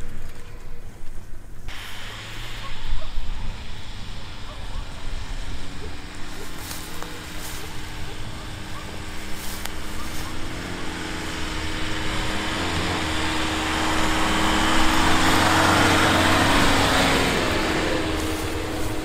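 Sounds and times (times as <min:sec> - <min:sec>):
car engine under load: 0:00.0 - 0:19.0
tyres brushing through grass: 0:00.0 - 0:19.0.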